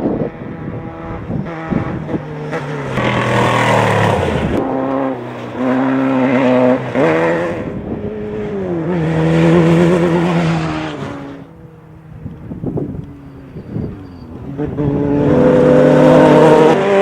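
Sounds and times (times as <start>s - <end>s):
race vehicle engines revving: 0.0s - 17.0s.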